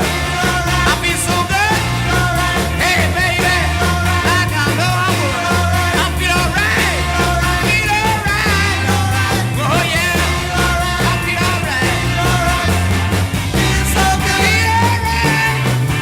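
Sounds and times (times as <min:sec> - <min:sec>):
bass guitar: 0:00.0 - 0:16.0
person singing lead vocal: 0:00.0 - 0:16.0
steady drum beat: 0:00.0 - 0:16.0.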